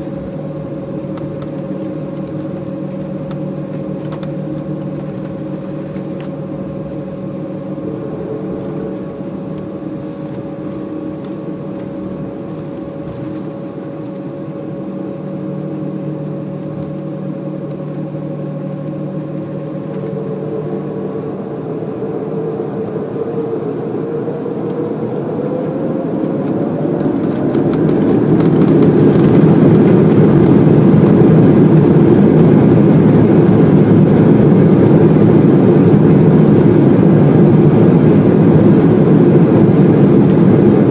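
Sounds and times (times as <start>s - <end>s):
jet engines whining: 0.0s - 40.9s
loud rushing engine noise: 0.0s - 40.9s.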